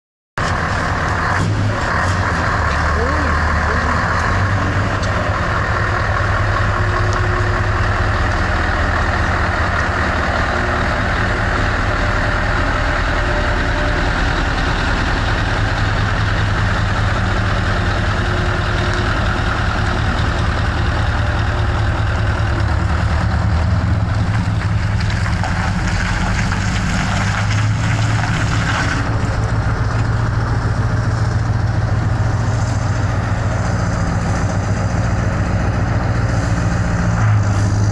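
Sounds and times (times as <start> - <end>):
truck engine idling: 0.4 - 37.9.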